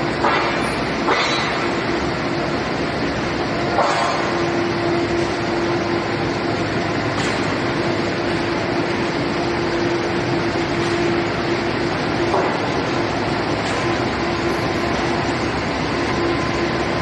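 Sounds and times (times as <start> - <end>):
furnace machinery humming and roaring: 0.0 - 17.0.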